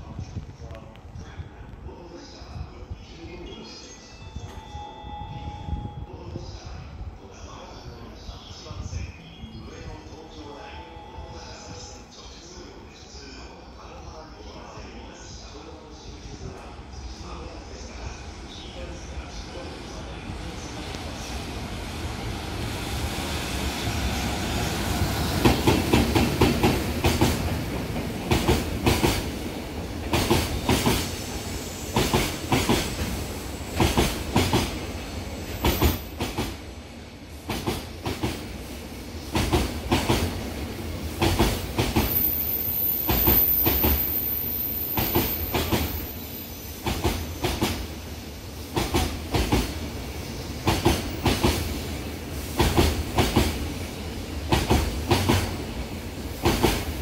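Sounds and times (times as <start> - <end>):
electric locomotive passing: 3.6 - 57.0.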